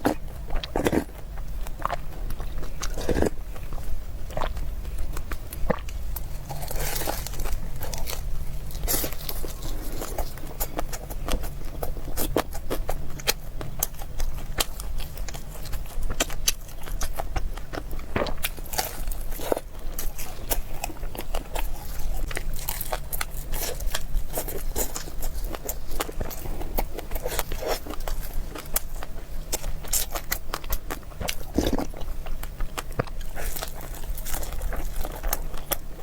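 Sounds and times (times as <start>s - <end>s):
chewing and crunching food: 0.0s - 36.0s
steady low hum: 0.0s - 36.0s.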